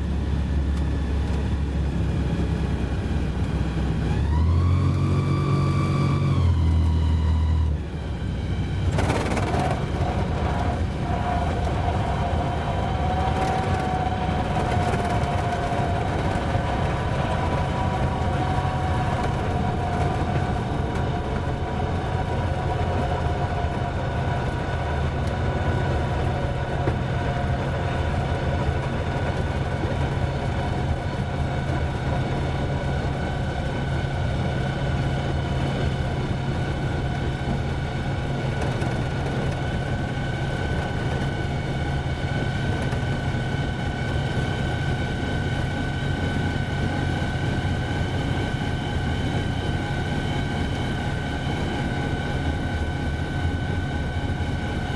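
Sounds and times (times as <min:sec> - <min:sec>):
light aircraft engine running: 0:00.0 - 0:54.9.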